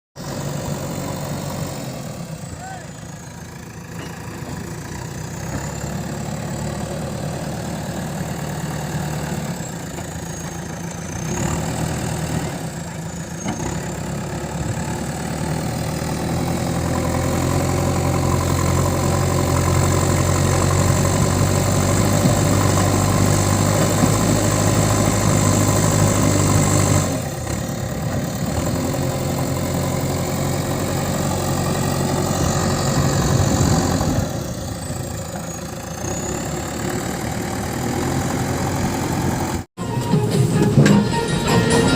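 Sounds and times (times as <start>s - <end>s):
digger diesel engine running: 0.2s - 41.9s.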